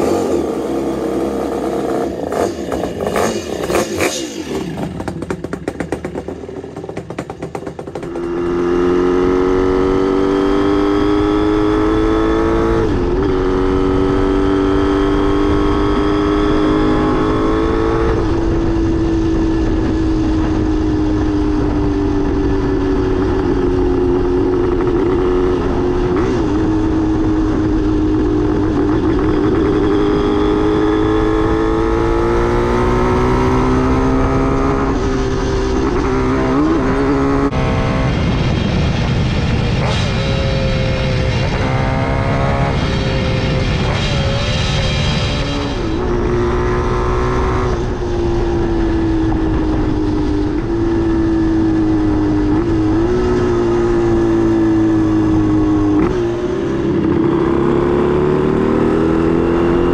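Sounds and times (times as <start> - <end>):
motorcycle engine revving: 0.0 - 59.9
wind rushing: 8.0 - 59.9.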